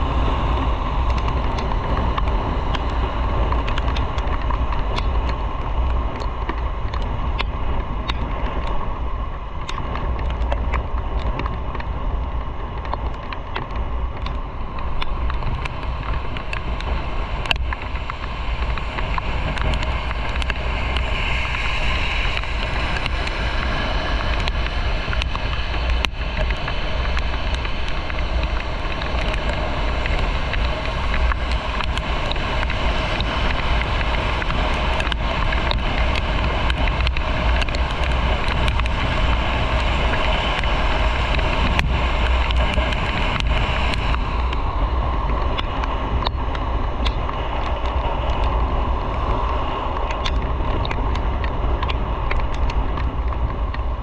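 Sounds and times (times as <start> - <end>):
road noise: 0.0 - 54.0
wind buffeting microphone: 0.0 - 54.0.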